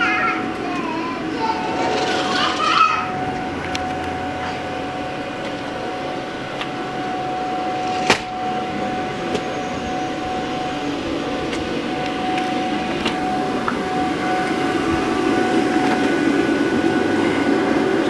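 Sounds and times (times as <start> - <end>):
electric blower fan humming: 0.0 - 18.0.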